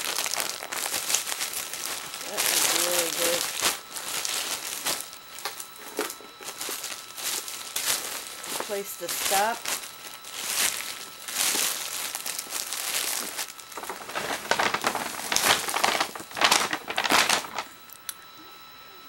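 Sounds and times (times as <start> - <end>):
bag crinkling and rustling: 0.0 - 17.8.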